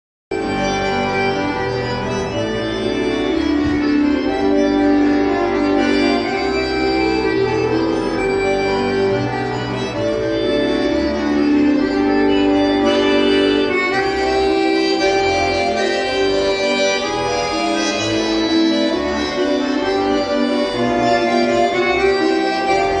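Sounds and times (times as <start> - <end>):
bass line: 0.4 - 23.0
folk dance music with reedy chords: 0.4 - 23.0.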